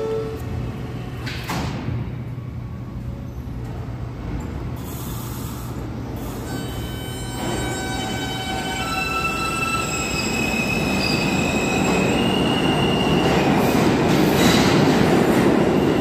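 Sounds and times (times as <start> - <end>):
train humming: 2.3 - 16.0.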